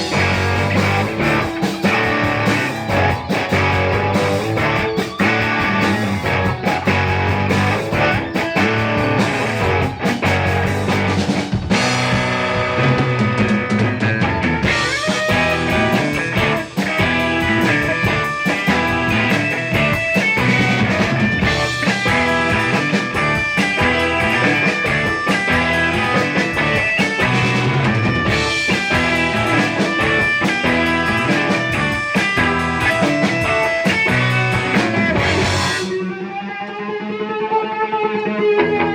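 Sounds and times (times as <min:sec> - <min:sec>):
live rock band playing: 0:00.0 - 0:37.4, 0:38.0 - 0:38.9.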